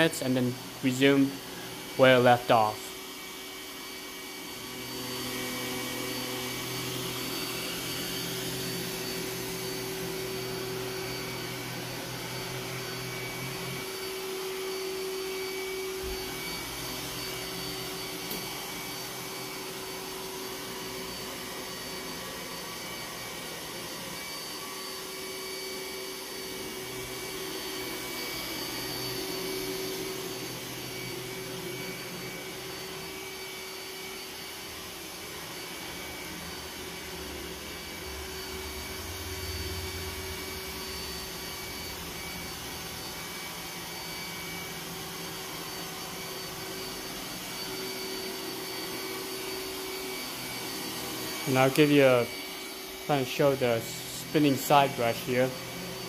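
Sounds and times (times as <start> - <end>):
robot vacuum running on carpet: 0.0 - 56.0.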